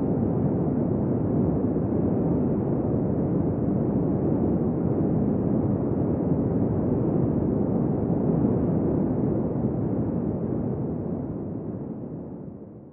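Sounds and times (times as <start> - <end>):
wind blowing steadily: 0.0 - 12.8.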